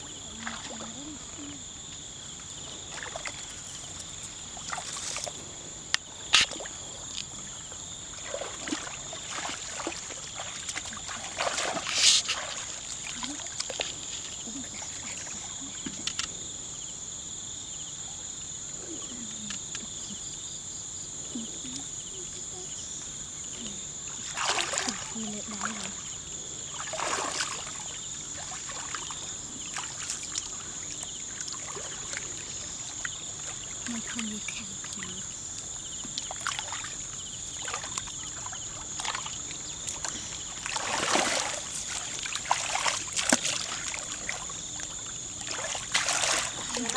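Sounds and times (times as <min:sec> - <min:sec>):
muddy water splashing: 0:00.0 - 0:16.4, 0:23.5 - 0:46.9.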